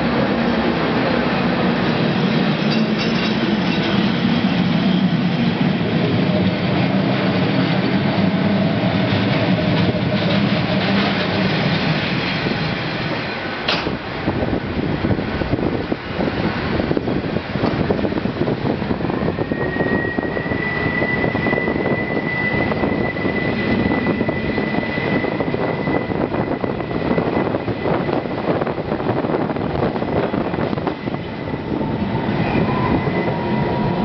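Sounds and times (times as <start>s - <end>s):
train wheels and motors rumbling: 0.0s - 34.0s.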